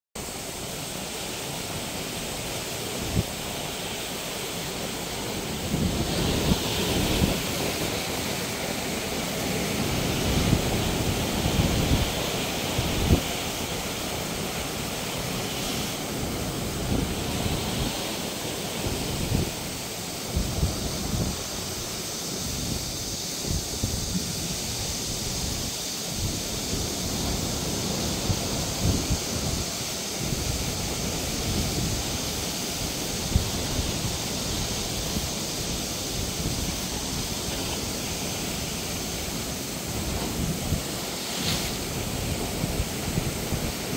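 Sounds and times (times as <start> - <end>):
surf washing over rocks: 0.2 - 43.9
wind buffeting microphone: 4.9 - 43.9.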